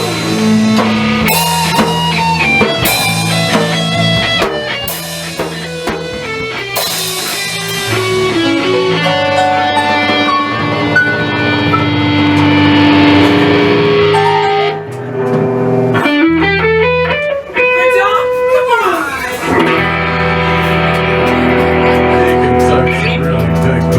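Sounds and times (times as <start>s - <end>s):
bass line: 0.0s - 17.2s, 19.4s - 23.9s
electric guitar held notes: 0.0s - 23.9s.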